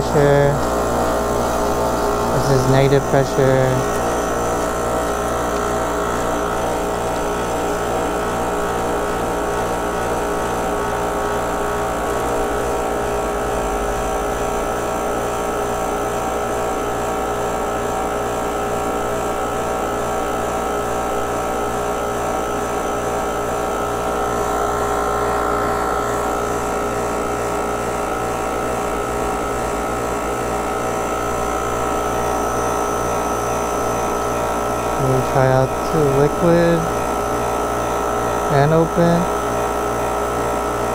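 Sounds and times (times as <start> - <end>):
compressor humming with fast pulse: 0.0 - 40.9.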